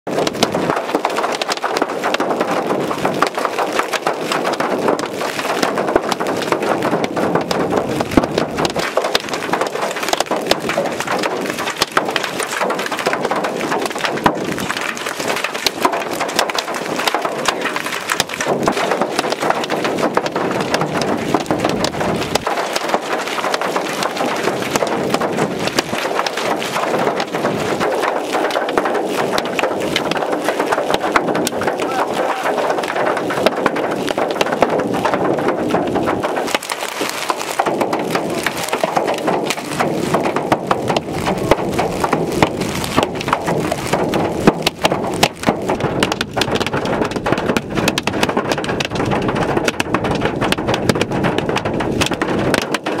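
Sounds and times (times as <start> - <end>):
hailstones pelting the ground: 0.0 - 53.0.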